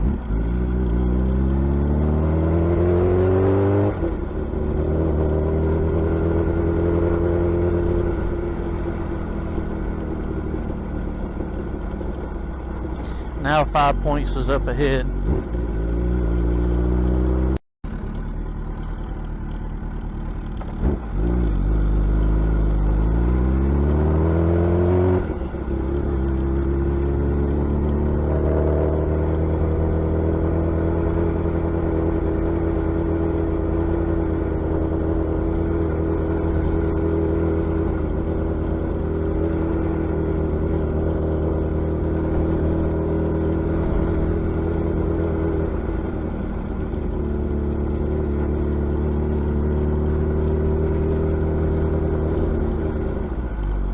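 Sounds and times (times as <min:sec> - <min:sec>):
motorcycle engine accelerating: 0:00.0 - 0:13.4, 0:15.0 - 0:53.9.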